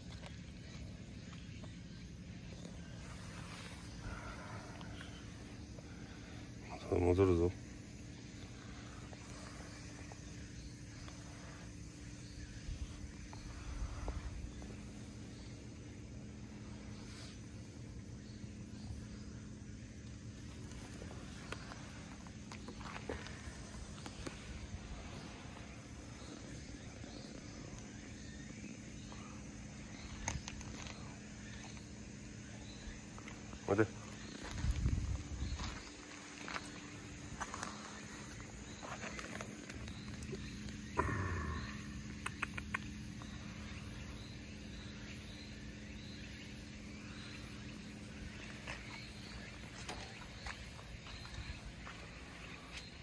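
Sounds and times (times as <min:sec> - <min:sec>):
faint insect or bird chirps: 0:00.0 - 0:53.0.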